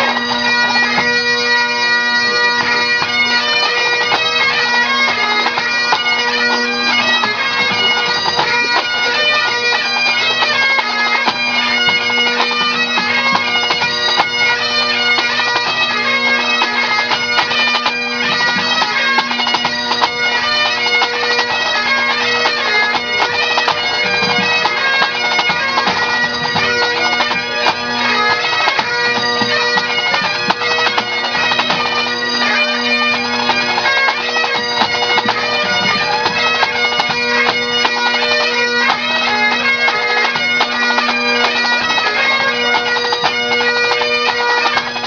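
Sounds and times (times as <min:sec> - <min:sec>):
bagpipes drone and melody: 0:00.0 - 0:45.0.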